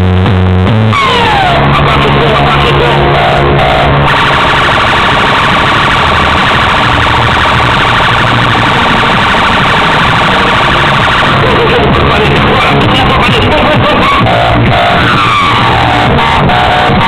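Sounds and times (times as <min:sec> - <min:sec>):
distorted electronic music: 0:00.0 - 0:17.0.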